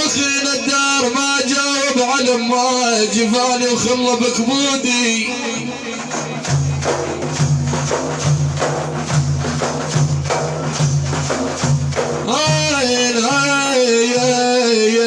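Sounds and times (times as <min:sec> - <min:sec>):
frame drums with jingles: 0:00.0 - 0:15.0.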